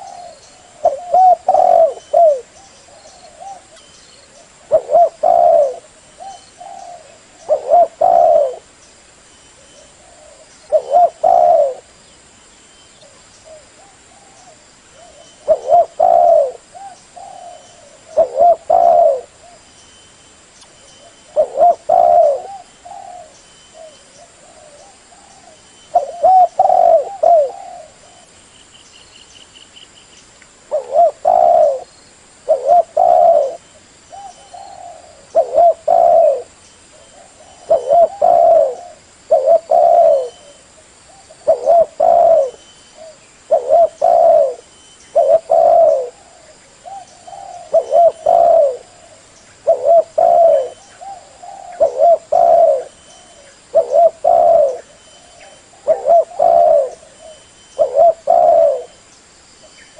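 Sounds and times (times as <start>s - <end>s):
dove cooing: 0.0s - 8.7s, 9.6s - 12.0s, 13.0s - 19.6s, 21.0s - 28.4s, 30.7s - 59.0s.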